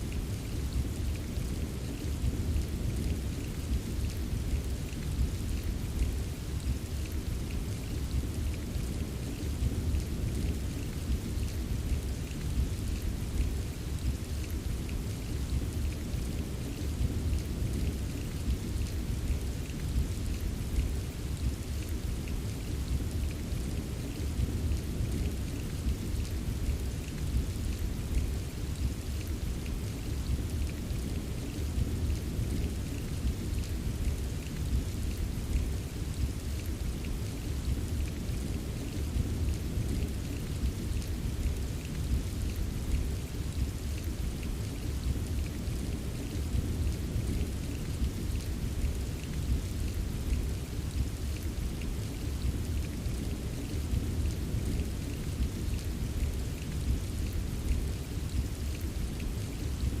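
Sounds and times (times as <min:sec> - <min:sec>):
rain low rumble: 0:00.0 - 1:00.0
raindrop ticks: 0:00.1 - 1:00.0.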